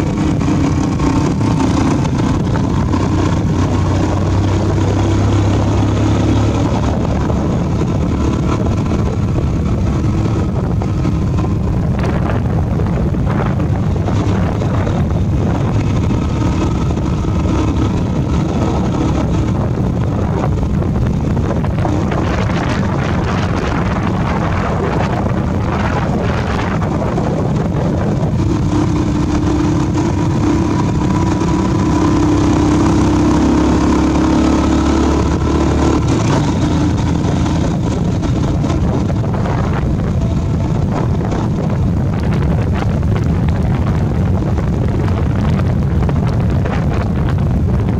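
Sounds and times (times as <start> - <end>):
motorbike engine running: 0.0 - 47.9
wind rushing over microphone: 0.0 - 47.9.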